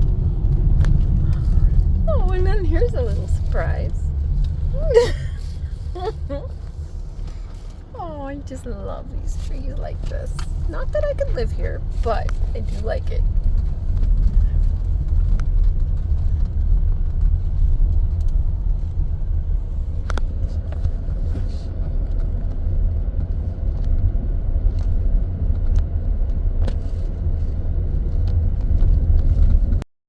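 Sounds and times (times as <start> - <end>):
car driving on road: 0.0 - 29.8.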